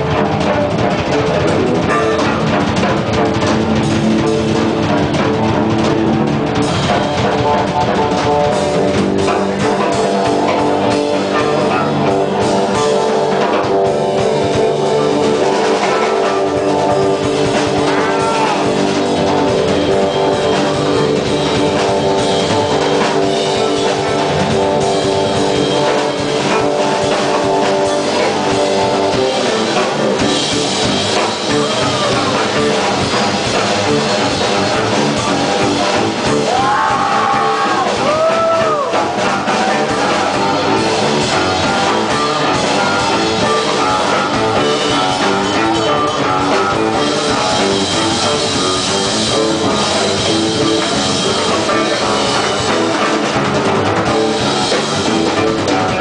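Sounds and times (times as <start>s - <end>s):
drum kit with busy cymbals: 0.0s - 56.0s
jazz fusion band playing: 0.0s - 56.0s.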